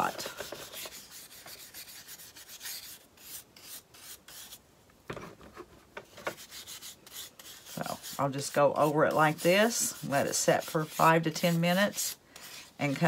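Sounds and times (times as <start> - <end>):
bristle brush scrubbing wood: 0.0 - 4.6, 6.3 - 13.0.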